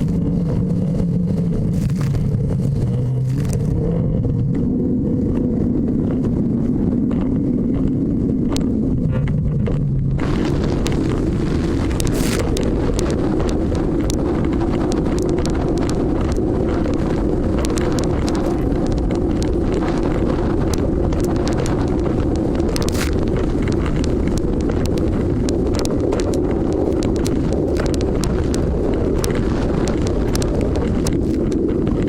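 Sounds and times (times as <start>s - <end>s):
boat engine drone: 0.0s - 32.0s
wind buffeting microphone: 0.0s - 32.0s.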